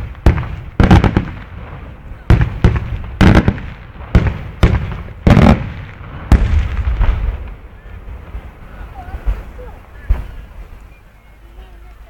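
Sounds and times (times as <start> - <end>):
rolling echo rumble: 0.0 - 12.0.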